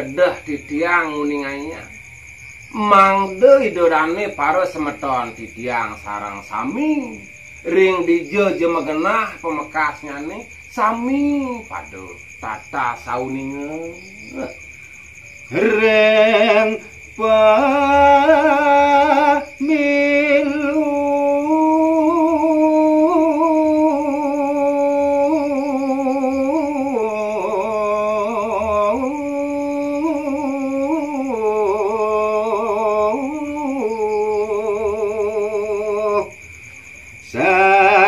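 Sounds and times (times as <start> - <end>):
man singing unaccompanied: 0.0 - 38.0.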